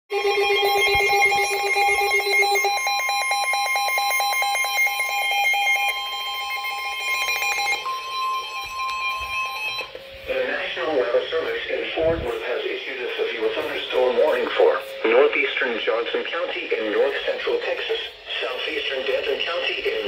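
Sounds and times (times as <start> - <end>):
weather radio alert alarm: 0.1 - 20.0.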